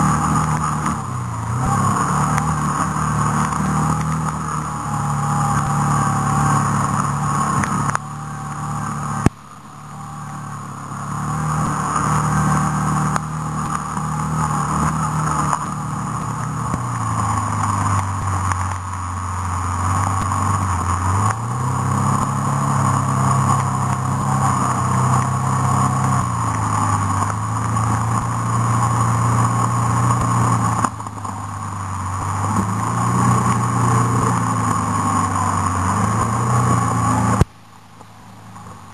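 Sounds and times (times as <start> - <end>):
vehicle engine changing gears: 0.0 - 38.9.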